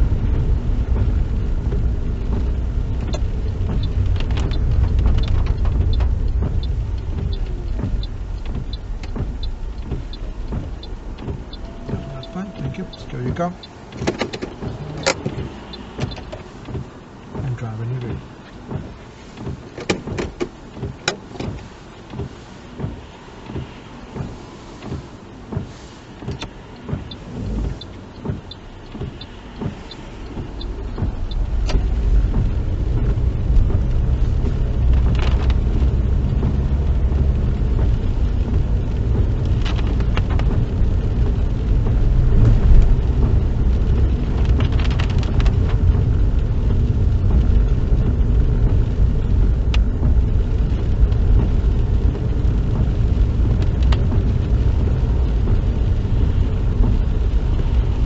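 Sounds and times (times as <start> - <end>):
car engine and road noise: 0.0 - 58.0
car indicator ticking: 0.4 - 50.2.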